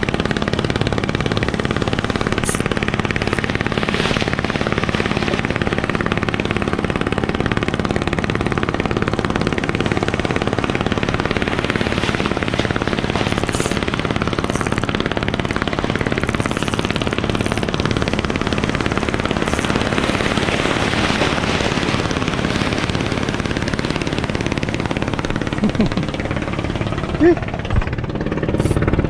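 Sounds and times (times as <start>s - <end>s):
surf washing: 0.0s - 28.0s.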